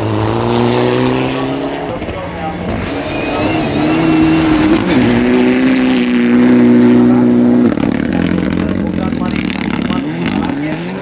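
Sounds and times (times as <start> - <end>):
car accelerating on gravel: 0.0 - 11.0
rally car engine at full throttle: 0.0 - 11.0.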